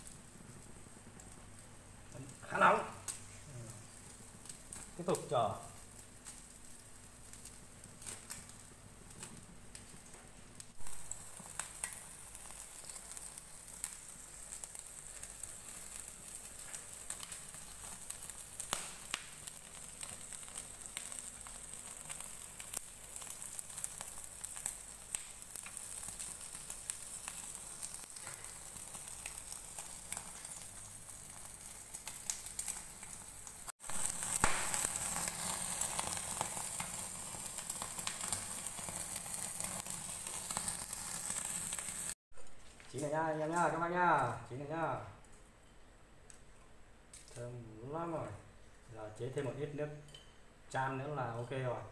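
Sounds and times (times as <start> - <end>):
meat sizzling on a grill: 0.0 - 42.2.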